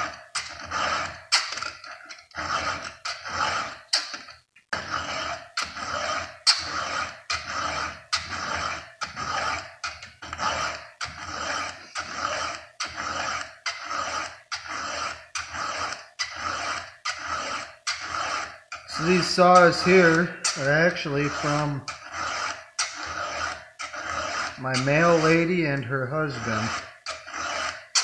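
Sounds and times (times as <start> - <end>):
file rasping on chainsaw chain: 0.0 - 28.0.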